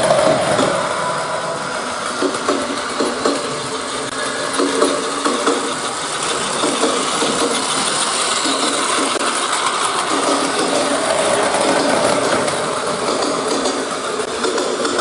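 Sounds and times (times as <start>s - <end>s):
toy train motor whirring: 0.0s - 15.0s
wheels clicking on track: 0.0s - 15.0s.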